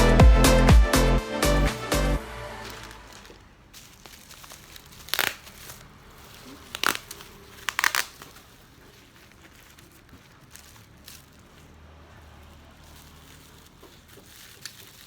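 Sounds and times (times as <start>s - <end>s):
crinkly material rustling: 1.8s - 15.0s.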